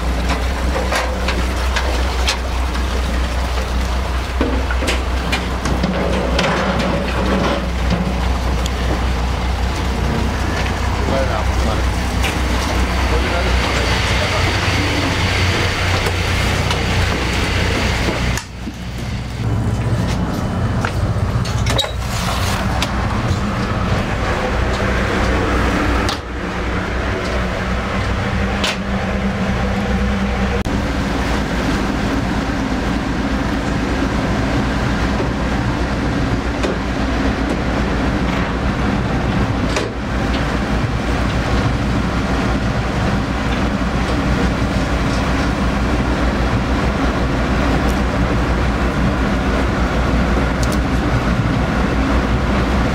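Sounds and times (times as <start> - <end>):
diesel engine humming: 0.0 - 52.9
rushing water: 0.0 - 52.9.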